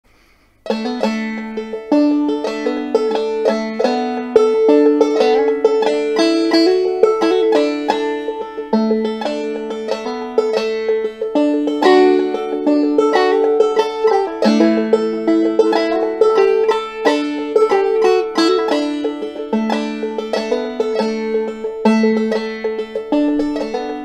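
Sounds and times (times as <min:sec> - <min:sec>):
banjo folk melody: 0:00.6 - 0:24.0.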